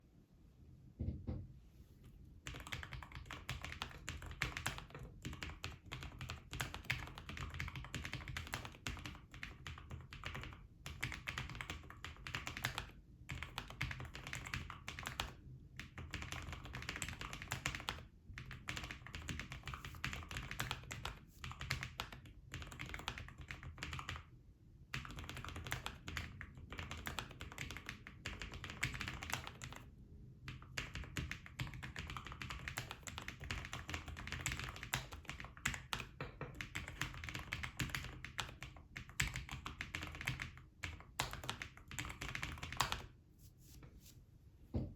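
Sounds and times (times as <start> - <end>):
mechanical keyboard typing: 2.4 - 24.3, 24.9 - 29.9, 30.5 - 43.1.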